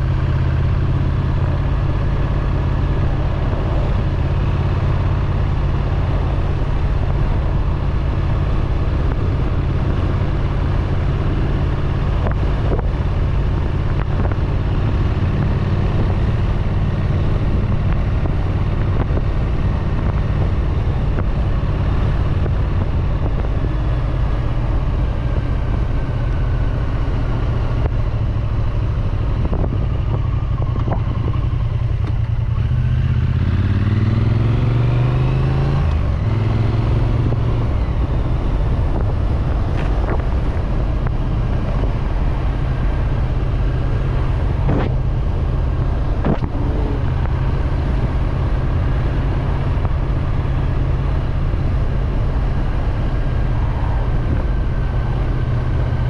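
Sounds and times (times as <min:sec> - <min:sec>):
motorcycle engine and exhaust running: 0:00.0 - 0:56.0.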